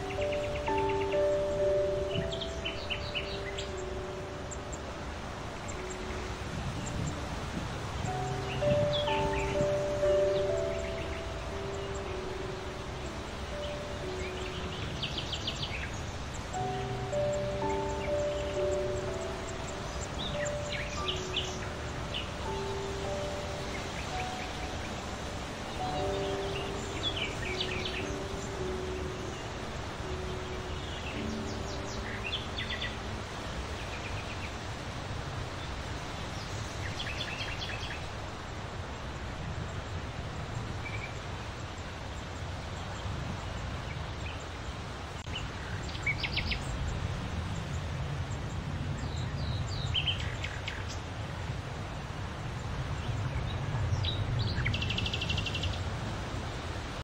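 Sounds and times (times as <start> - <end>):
small birds chirping: 0.0 - 51.5, 52.4 - 57.0
wind on microphone: 0.0 - 57.0.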